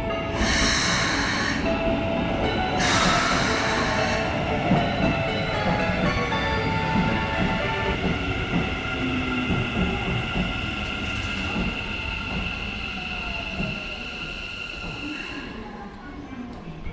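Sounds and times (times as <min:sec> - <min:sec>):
train cars rumbling: 0:00.0 - 0:16.9.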